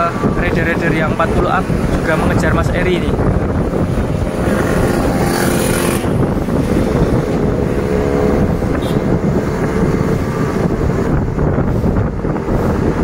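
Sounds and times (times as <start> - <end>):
vehicle engine running: 0.0 - 13.0
wind rumble on microphone: 0.0 - 13.0.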